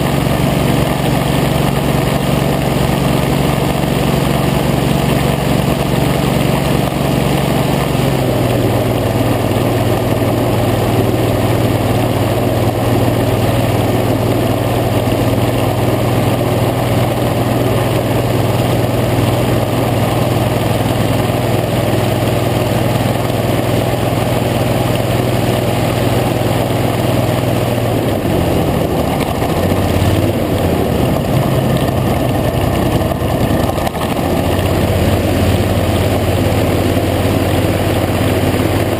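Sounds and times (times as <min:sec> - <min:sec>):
hovercraft engine and fan: 0:00.0 - 0:38.9.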